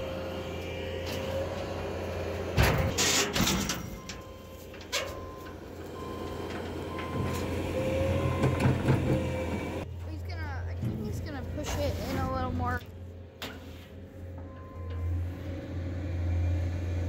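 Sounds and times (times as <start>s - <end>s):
skid steer engine running: 0.0s - 13.4s, 14.0s - 17.0s.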